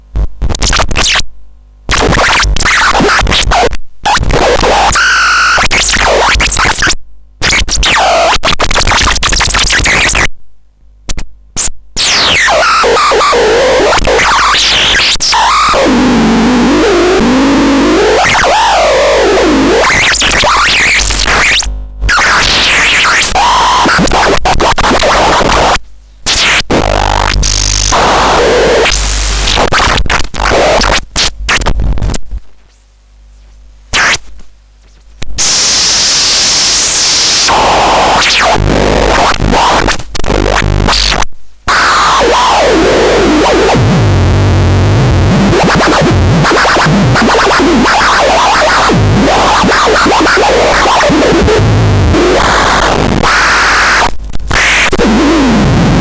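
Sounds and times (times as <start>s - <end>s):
harsh electronic noise: 0.5s - 1.2s, 1.9s - 10.3s, 12.0s - 32.9s, 33.8s - 56.0s.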